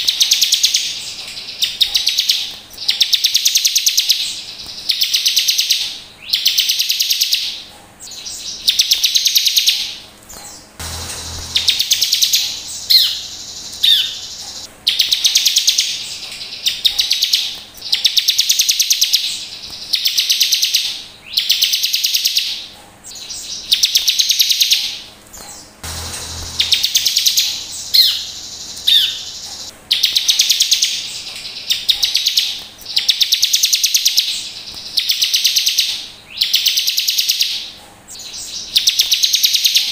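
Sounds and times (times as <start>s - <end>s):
bird song buzzy trills: 0.0s - 39.9s.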